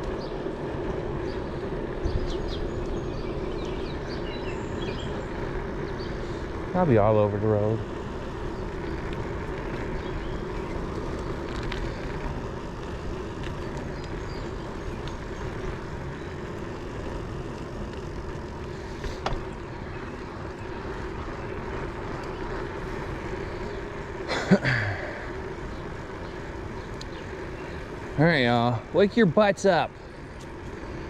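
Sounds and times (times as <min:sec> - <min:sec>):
bicycle tyres rolling: 0:00.0 - 0:31.0.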